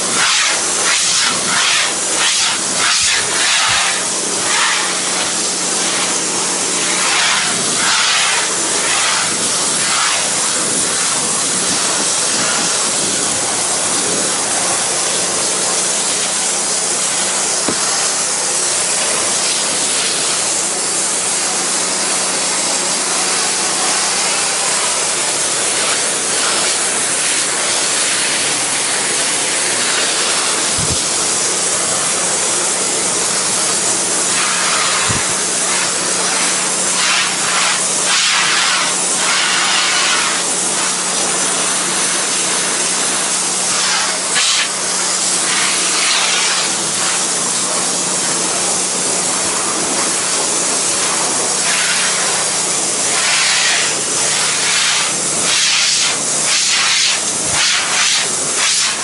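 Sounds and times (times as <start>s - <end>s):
pressure washer spray hissing: 0.0s - 59.0s.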